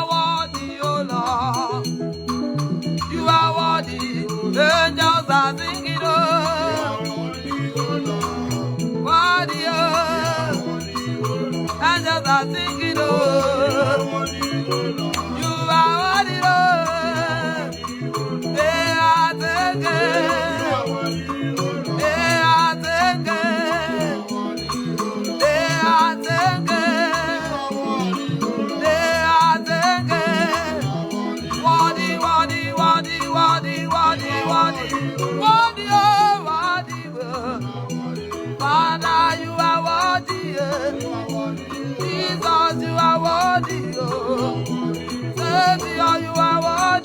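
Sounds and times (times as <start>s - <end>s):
gospel band playing: 0.0s - 47.0s
person singing: 0.0s - 47.0s
shaker percussion: 0.0s - 47.0s.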